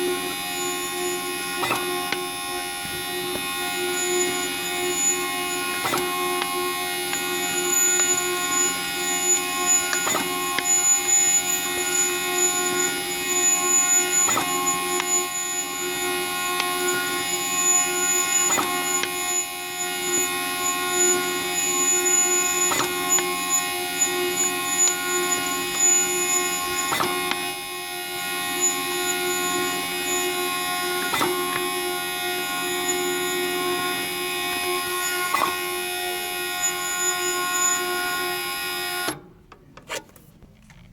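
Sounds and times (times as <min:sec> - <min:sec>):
printer squealing: 0:00.0 - 0:39.2.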